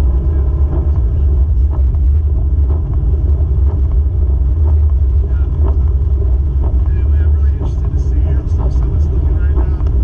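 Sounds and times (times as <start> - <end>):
muffled car engine and tyres rumble: 0.0 - 10.0.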